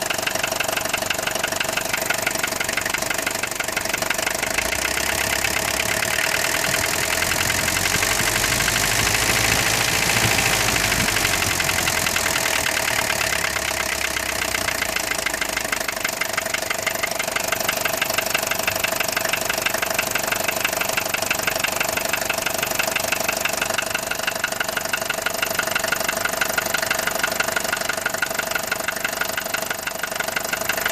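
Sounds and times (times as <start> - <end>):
diesel engine knocking: 0.0 - 30.9.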